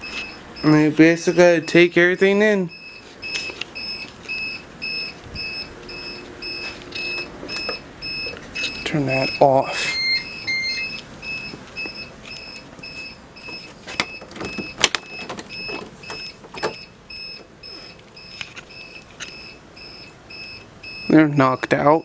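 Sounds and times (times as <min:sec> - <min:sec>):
electronic alarm beeping: 0:00.0 - 0:22.0.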